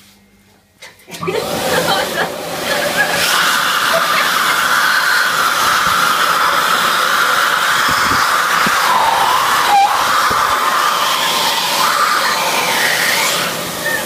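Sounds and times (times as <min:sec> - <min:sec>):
electric hand dryer blowing: 0:01.1 - 0:14.0.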